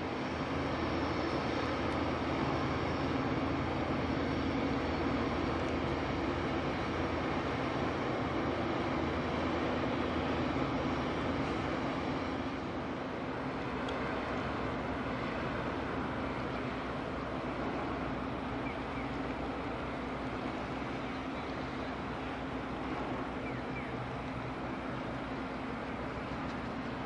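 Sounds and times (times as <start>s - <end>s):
diesel engines droning: 0.0s - 27.0s.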